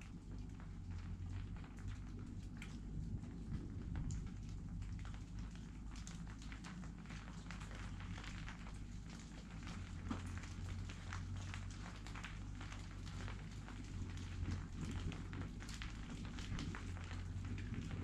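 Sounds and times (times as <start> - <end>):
raindrops pattering on leaves: 0.0 - 18.0
wind rumbling on microphone: 0.0 - 18.0.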